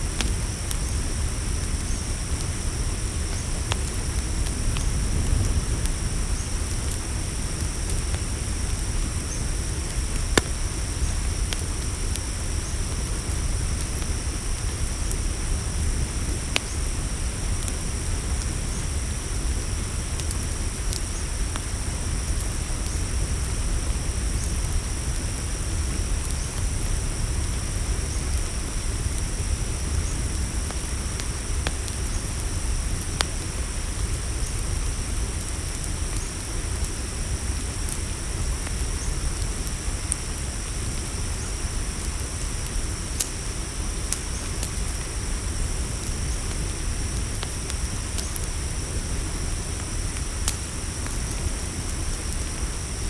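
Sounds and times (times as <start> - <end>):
campfire crackling: 0.0 - 53.0
crickets trilling: 0.0 - 53.0
low steady rumble: 0.0 - 53.0.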